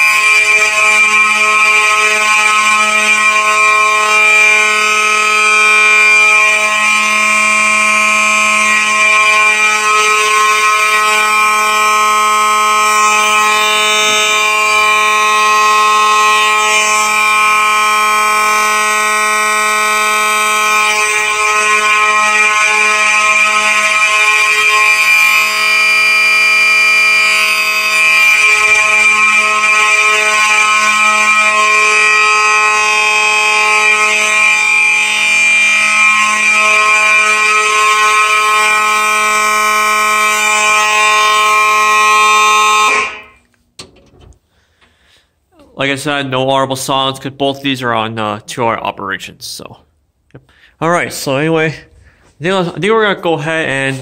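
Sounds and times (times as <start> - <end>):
alarm horns sounding: 0.0 - 45.1.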